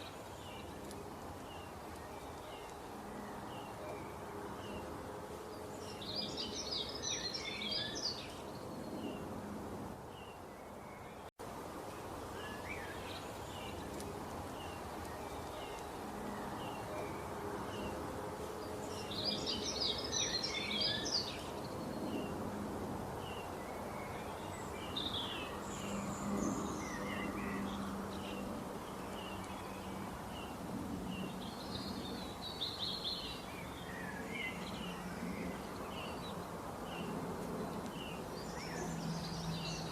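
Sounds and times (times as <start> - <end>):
small birds chirping: 0.0 - 9.4, 11.9 - 22.5, 23.1 - 39.9
steady background hiss: 0.0 - 39.9.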